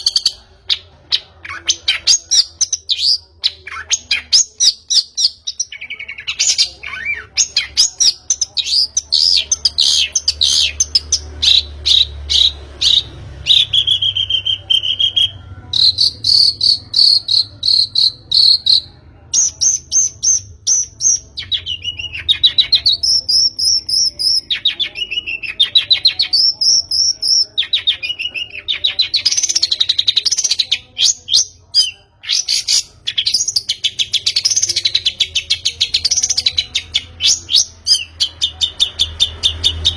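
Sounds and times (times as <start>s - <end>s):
bird singing chattering trills: 0.0s - 39.9s.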